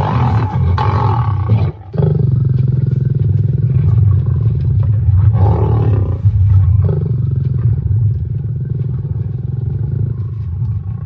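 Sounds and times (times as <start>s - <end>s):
lions growling: 0.0s - 11.0s.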